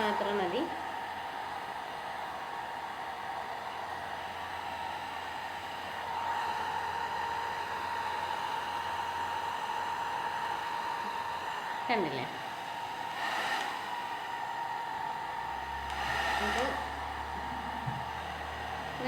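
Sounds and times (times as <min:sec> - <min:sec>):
hair dryer blowing: 0:00.0 - 0:19.0.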